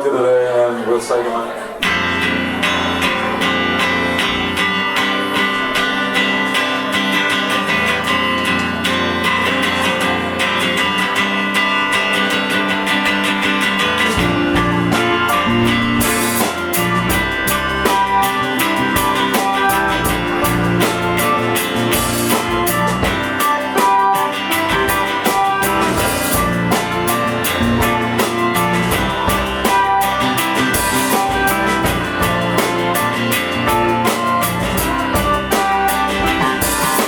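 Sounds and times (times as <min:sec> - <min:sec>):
electric guitars: 0:01.4 - 0:37.0
bass guitar: 0:01.7 - 0:37.0
drum kit steady beat: 0:02.0 - 0:37.0.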